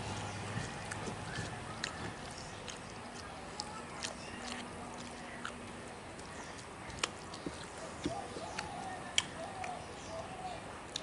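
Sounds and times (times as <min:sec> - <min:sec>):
person chewing: 0:00.0 - 0:09.8
wet mouth clicks and lip smacks: 0:00.6 - 0:09.8.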